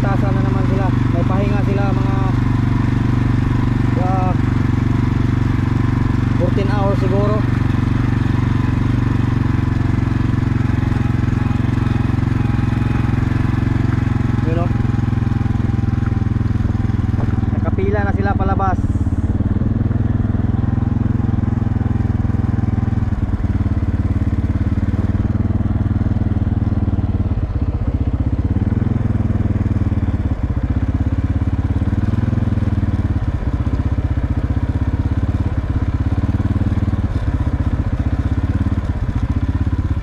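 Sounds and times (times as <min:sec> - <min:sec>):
machine low drone: 0:00.0 - 0:40.0.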